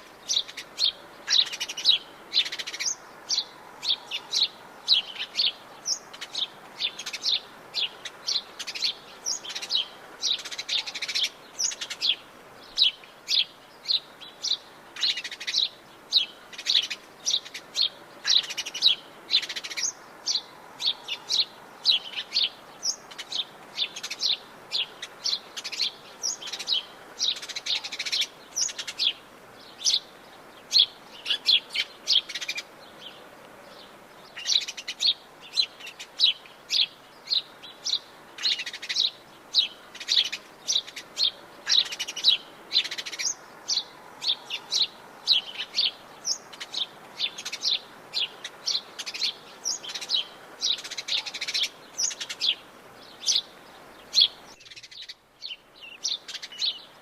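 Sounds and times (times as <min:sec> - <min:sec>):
faint steady hiss: 0:00.0 - 0:57.0
songbirds chirping: 0:00.0 - 0:57.0.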